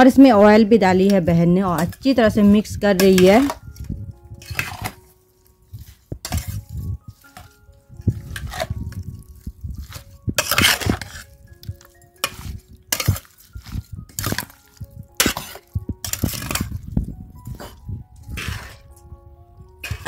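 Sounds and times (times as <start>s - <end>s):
soft background music: 0.0s - 20.0s
metal spoon scraping a steel bowl: 0.3s - 16.9s, 17.5s - 19.1s, 19.8s - 20.0s.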